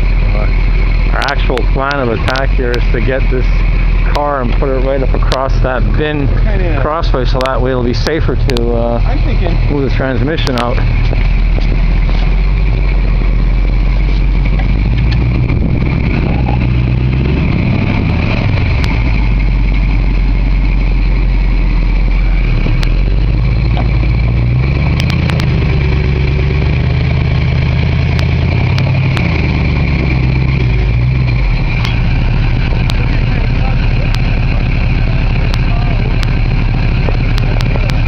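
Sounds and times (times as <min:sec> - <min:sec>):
engine revving: 0:00.0 - 0:38.0.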